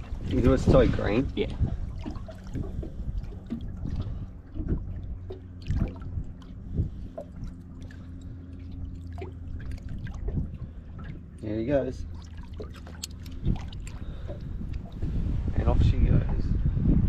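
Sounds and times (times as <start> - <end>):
steady low hum: 0.0 - 17.0
water sloshing against boat: 0.0 - 17.0.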